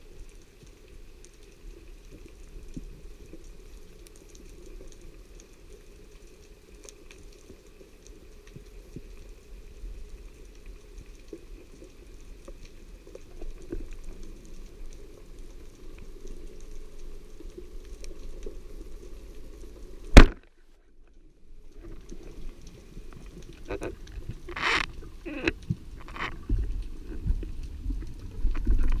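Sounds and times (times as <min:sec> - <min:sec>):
faint clicks and crackles: 0:00.0 - 0:29.0
muffled underwater hiss: 0:00.0 - 0:29.0.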